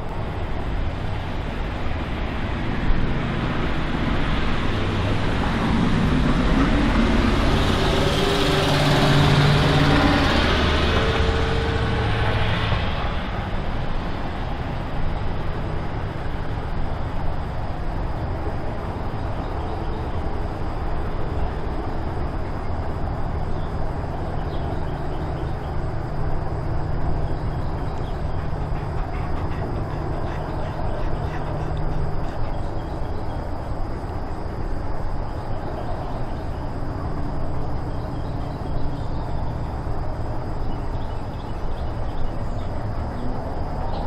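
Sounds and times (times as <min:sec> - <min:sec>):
motor vehicle passing: 0:00.0 - 0:44.0
steady traffic noise: 0:00.0 - 0:44.0.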